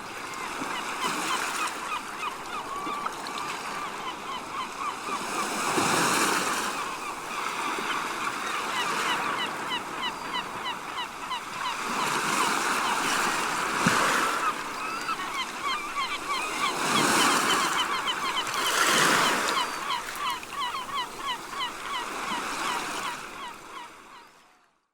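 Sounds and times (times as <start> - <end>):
sea waves breaking: 0.0 - 23.8
seagulls calling: 0.2 - 24.4.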